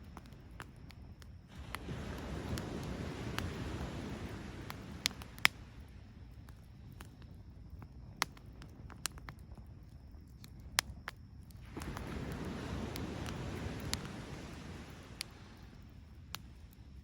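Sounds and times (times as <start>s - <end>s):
firewood crackling and popping: 0.0s - 17.0s
low fire rumble: 0.0s - 17.0s.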